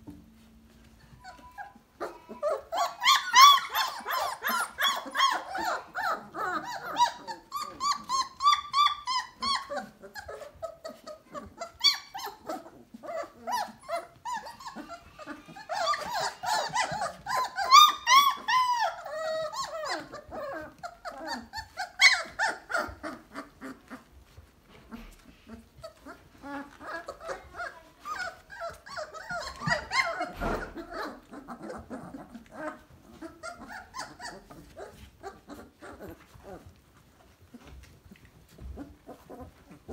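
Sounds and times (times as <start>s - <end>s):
puppies crying squeakily: 1.0s - 24.5s, 25.1s - 36.8s.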